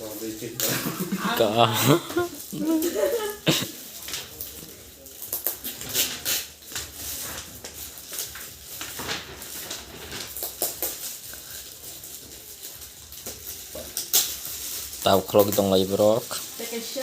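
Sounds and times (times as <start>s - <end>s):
packaging crackling and rustling: 0.0s - 17.0s.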